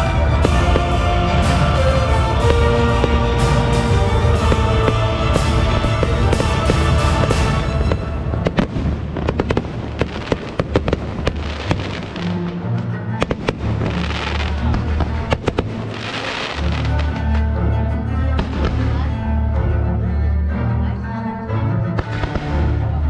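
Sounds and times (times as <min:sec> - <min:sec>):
music: 0:00.0 - 0:23.0.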